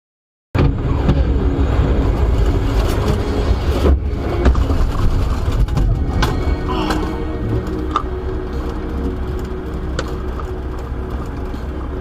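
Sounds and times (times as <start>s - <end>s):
vehicle engine and road noise: 0.6s - 12.0s.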